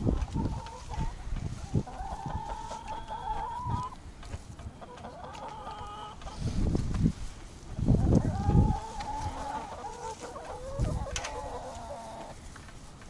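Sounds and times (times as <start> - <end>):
hens clucking and calling: 0.0 - 12.8.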